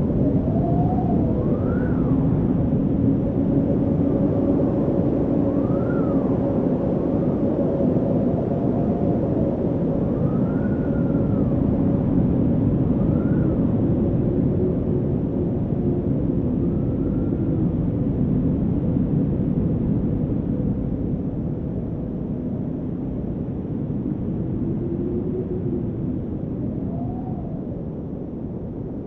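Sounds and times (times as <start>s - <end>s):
wind whistling: 0.0s - 19.1s, 21.8s - 29.0s.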